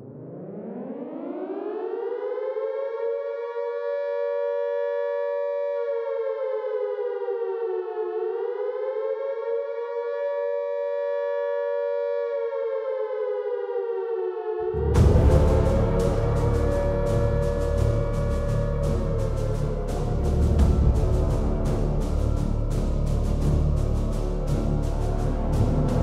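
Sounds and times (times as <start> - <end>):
air-raid siren: 0.0 - 26.0.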